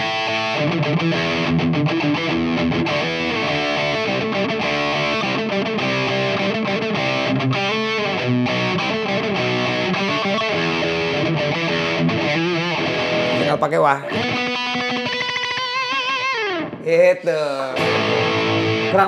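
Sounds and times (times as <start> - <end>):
distorted electric guitar riff: 0.0 - 19.0.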